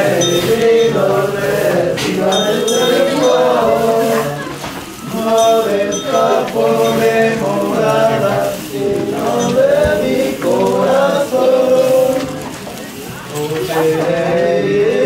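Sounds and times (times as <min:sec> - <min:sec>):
voices singing long notes: 0:00.0 - 0:15.0.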